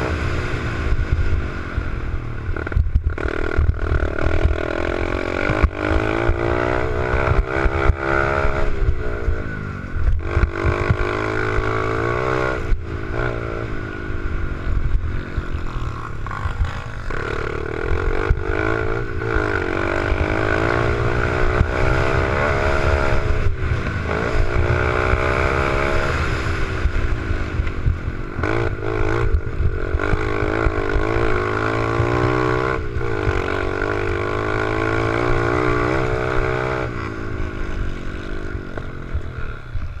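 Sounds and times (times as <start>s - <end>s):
mini bike engine revving: 2.5s - 40.0s.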